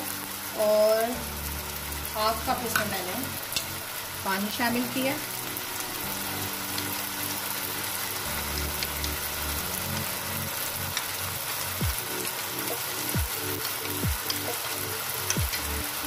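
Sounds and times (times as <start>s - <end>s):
vegetables sizzling in a pan: 0.0s - 16.0s.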